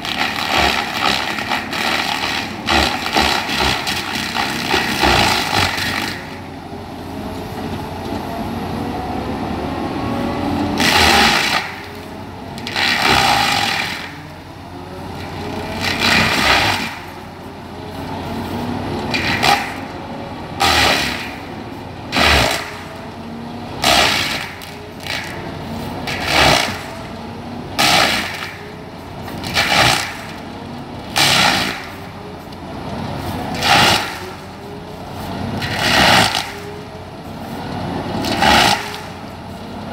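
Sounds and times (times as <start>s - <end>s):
mulcher grinding wood: 0.0s - 39.9s.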